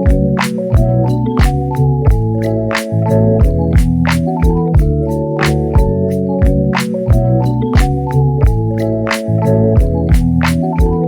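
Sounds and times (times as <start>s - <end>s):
organ-like keyboard chords: 0.0s - 11.0s
percussive beat: 0.0s - 11.0s.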